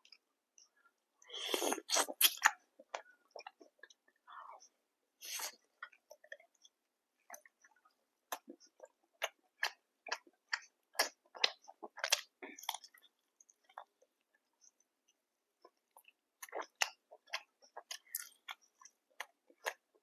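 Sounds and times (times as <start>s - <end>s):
chewing food: 0.0s - 4.6s, 5.4s - 20.0s.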